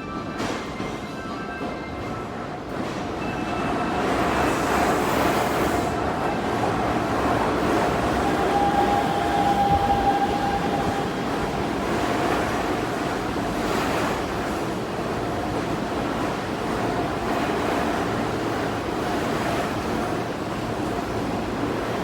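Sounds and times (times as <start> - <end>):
train rumbling: 0.1 - 22.0.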